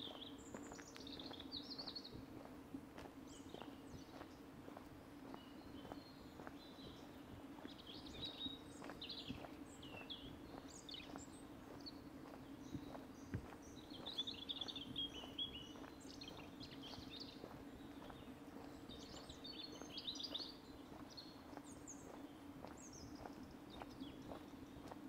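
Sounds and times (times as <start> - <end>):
footsteps on a path: 0.0 - 25.0
low background hum: 0.0 - 25.0
small birds chirping: 0.0 - 25.0.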